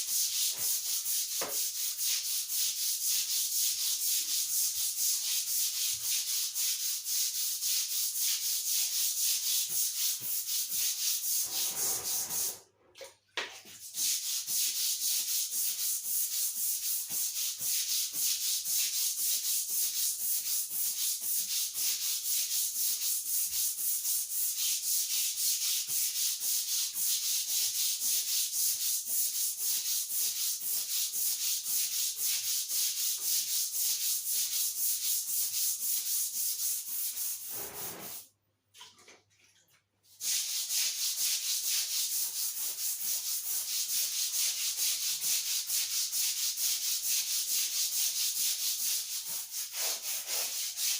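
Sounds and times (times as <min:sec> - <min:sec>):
scrub brush scrubbing floor mat: 0:00.0 - 0:12.6, 0:13.5 - 0:38.3, 0:40.1 - 0:50.9.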